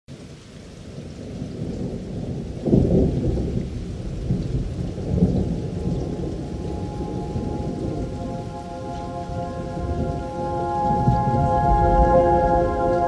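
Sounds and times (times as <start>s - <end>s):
rain: 0.1s - 13.0s
thunder rumbling: 1.0s - 13.0s.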